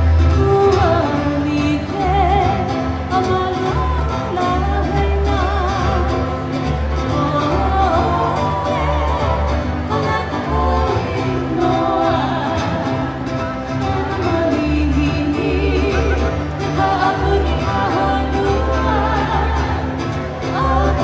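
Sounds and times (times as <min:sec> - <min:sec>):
bass line: 0:00.0 - 0:21.0
person singing with vibrato: 0:00.0 - 0:21.0
strummed guitars and ukuleles: 0:00.0 - 0:21.0.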